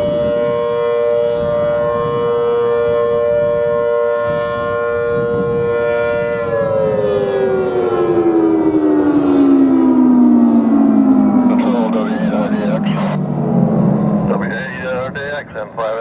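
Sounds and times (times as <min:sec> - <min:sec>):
outdoor warning siren: 0:00.0 - 0:16.0.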